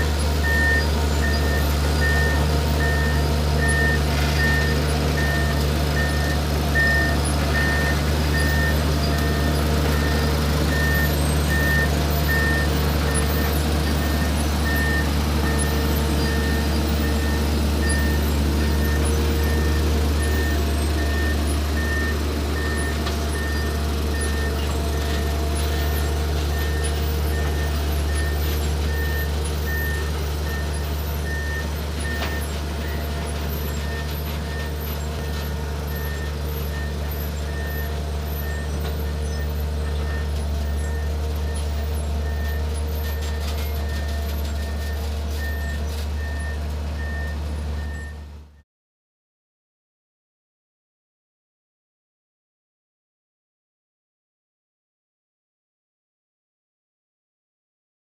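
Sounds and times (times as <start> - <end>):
crane diesel engine running: 0.0 - 48.6.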